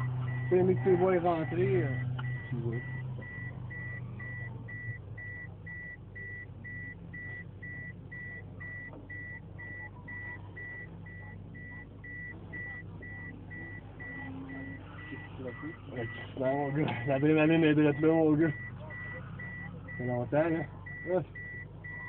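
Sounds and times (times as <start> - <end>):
high electronic beep: 0.0 - 20.2
car engine idling: 0.0 - 22.0.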